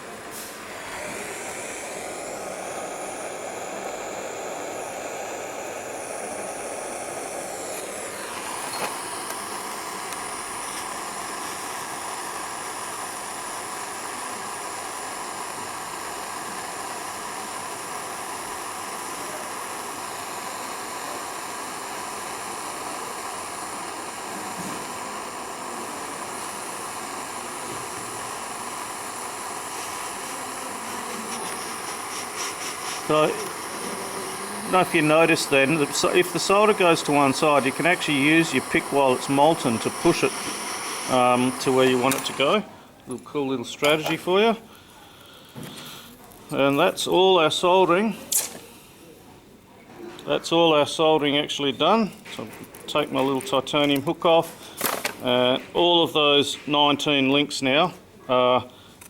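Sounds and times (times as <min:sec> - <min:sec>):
torch flame hissing: 0:00.0 - 0:48.9.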